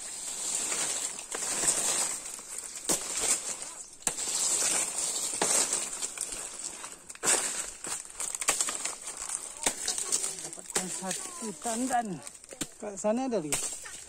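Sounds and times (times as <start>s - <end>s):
palm fronds rustling and crackling: 0.0s - 14.0s.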